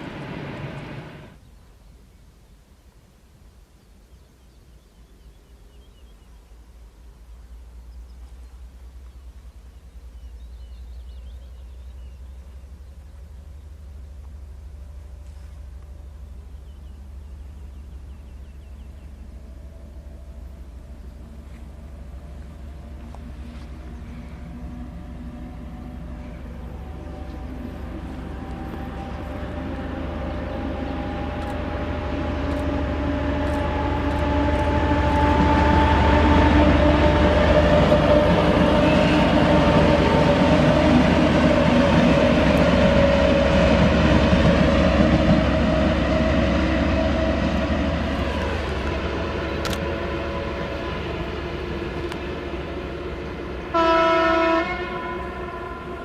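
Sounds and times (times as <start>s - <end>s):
diesel locomotive engines droning: 0.0s - 1.5s, 5.1s - 56.0s
rail rumble: 0.0s - 2.2s, 5.1s - 56.0s.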